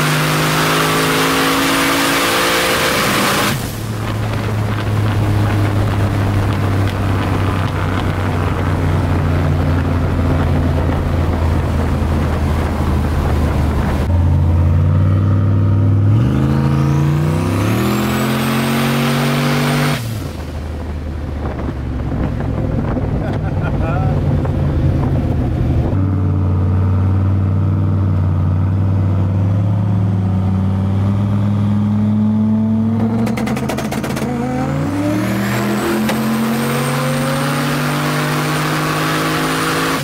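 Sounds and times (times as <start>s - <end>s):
car engine accelerating: 0.0s - 40.0s
wind and road noise: 0.0s - 40.0s.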